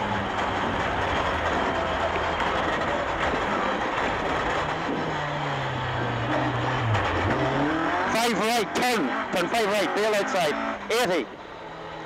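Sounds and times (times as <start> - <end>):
car engine running hard: 0.0 - 12.0
rattling road and tyre noise: 0.0 - 12.0.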